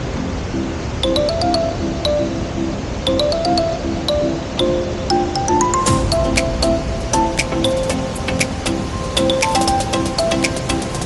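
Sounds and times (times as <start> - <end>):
background music with ticking beat: 0.2 - 11.0.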